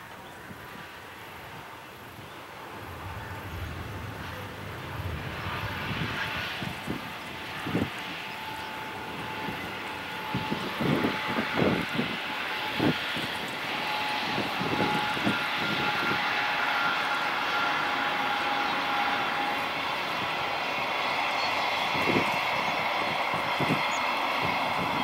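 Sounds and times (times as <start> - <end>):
distant engine rumble and hiss: 0.0 - 25.0
wind buffeting microphone: 0.5 - 25.0.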